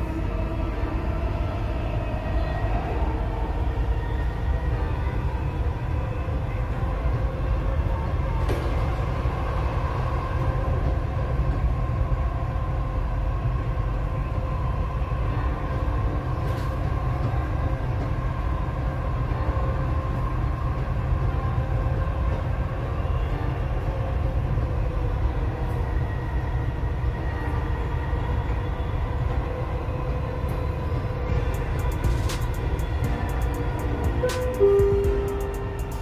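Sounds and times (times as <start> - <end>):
train rumble and whine: 0.0 - 36.0.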